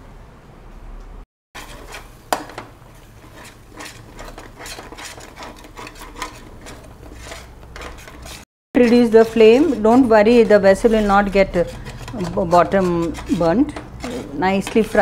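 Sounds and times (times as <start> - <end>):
masala frying: 1.6 - 15.0
spoon scraping a metal pan: 1.6 - 15.0.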